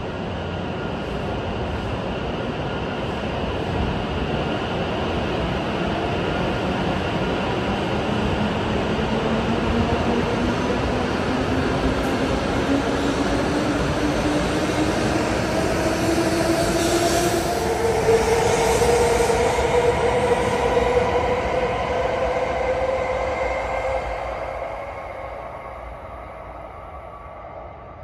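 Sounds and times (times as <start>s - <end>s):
train running noise: 0.0s - 27.1s.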